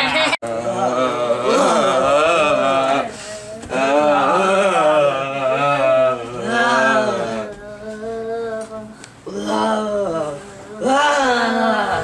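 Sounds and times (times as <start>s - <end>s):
person chanting long notes: 0.5s - 12.0s.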